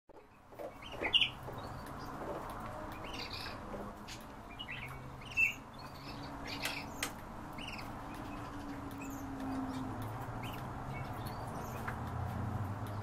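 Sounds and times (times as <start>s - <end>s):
birds giving bright calls: 0.2s - 13.0s.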